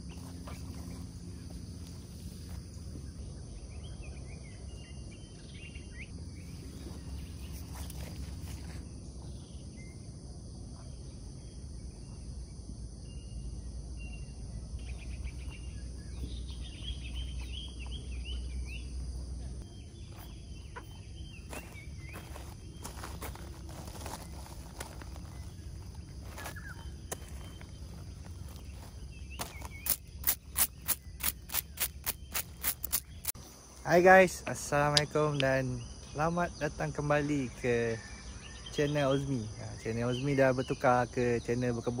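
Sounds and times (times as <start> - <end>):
birds chirping: 0.0 - 10.1, 12.9 - 42.0
high insect drone: 0.0 - 42.0.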